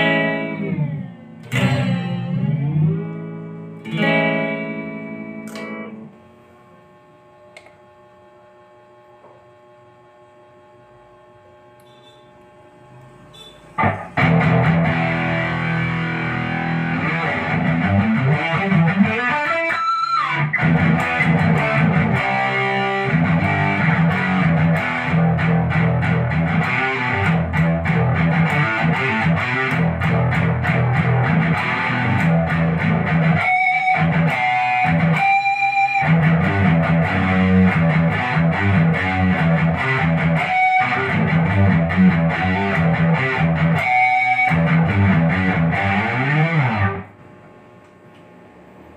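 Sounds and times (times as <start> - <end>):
distorted electric guitar riffs: 0.0 - 6.2, 11.8 - 47.2
guitar pitch glide: 0.0 - 6.2, 11.8 - 47.1.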